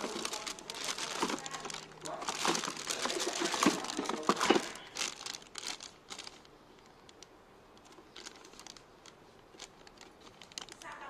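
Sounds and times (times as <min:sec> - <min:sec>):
crinkling rustle: 0:00.0 - 0:11.0.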